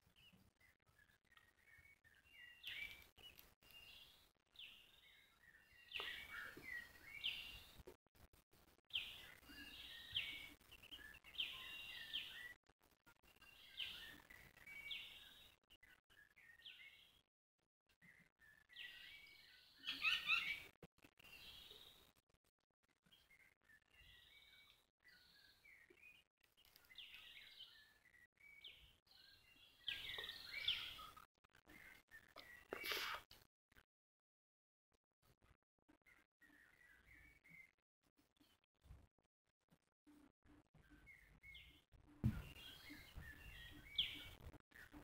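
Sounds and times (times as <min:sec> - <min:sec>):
faint bird chirping: 0:00.0 - 0:07.8, 0:08.9 - 0:17.3, 0:17.9 - 0:22.2, 0:22.9 - 0:33.4, 0:35.4 - 0:39.0, 0:40.0 - 0:45.0.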